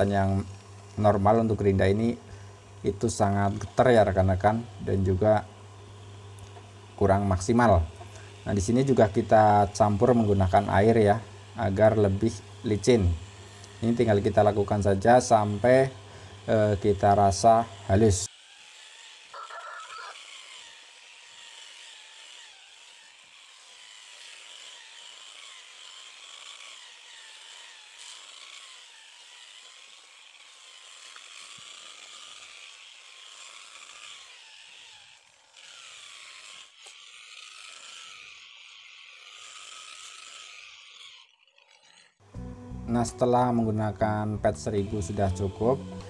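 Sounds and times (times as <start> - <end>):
angle grinder motor whine: 0.0 - 46.0
grinding hiss: 0.0 - 46.0.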